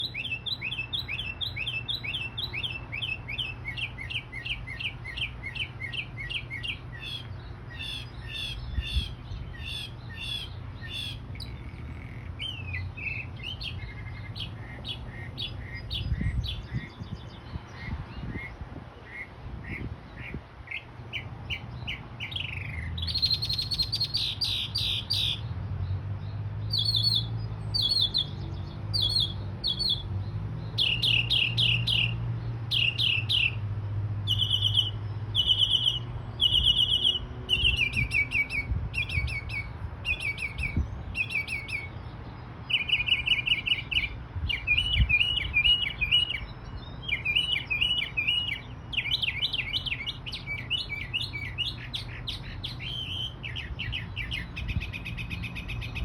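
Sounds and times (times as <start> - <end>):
bird singing trills: 0.0 - 56.0.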